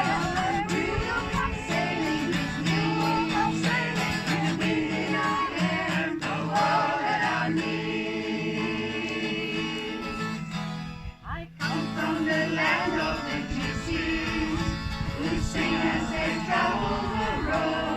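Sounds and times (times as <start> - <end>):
voices singing: 0.0 - 10.4, 11.3 - 17.9
strummed guitar: 0.0 - 17.9.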